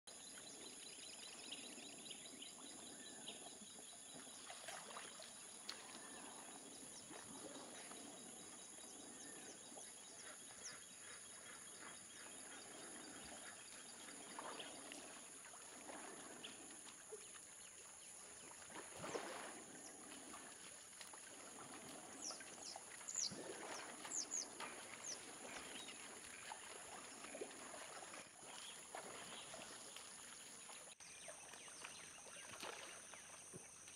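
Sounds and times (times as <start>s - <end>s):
water splashing and sloshing: 0.2s - 33.9s.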